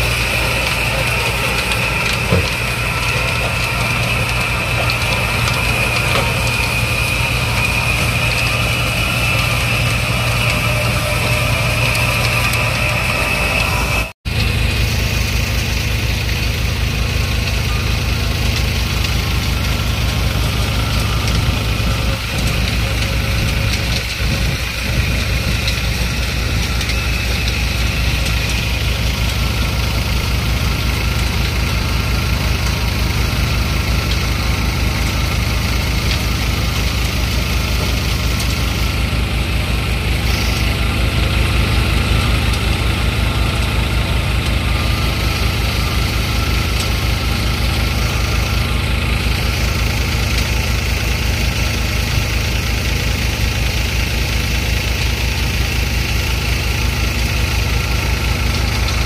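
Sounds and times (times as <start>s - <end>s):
engine low fast beat: 0.0s - 59.0s
threshing machine running: 0.0s - 59.0s.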